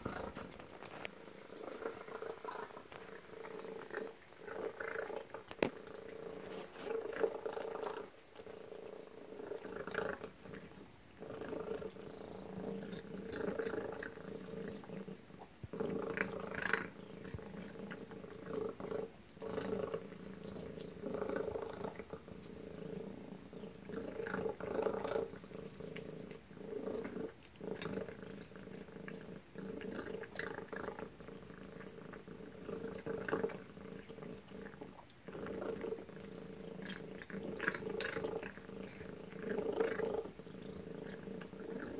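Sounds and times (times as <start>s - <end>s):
cat chewing and lapping: 0.0s - 41.9s.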